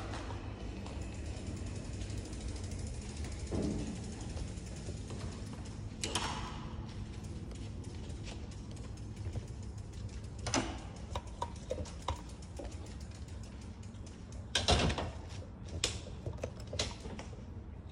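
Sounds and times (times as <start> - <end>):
bicycle knocks and rattles: 0.0 - 17.6
low steady hum: 0.0 - 17.9.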